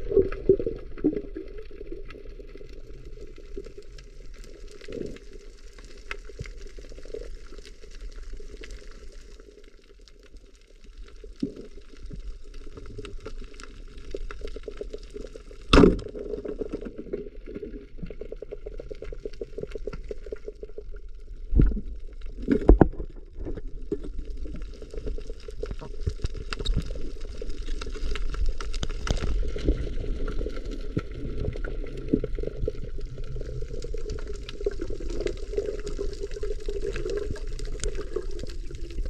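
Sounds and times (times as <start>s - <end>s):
crackle of small clicks: 0.0s - 39.0s
underwater watery rush: 0.0s - 39.0s.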